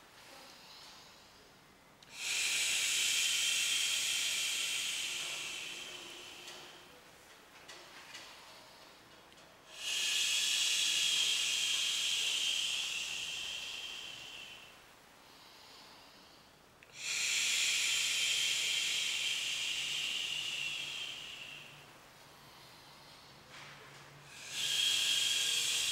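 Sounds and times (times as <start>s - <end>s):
person exhaling with a hiss: 2.0s - 7.0s, 9.7s - 25.9s.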